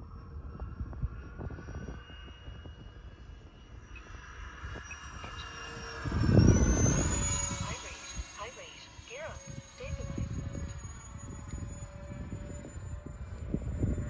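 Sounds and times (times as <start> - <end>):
model jet motor whining: 0.0 - 14.0
wind buffeting microphone: 0.0 - 14.0.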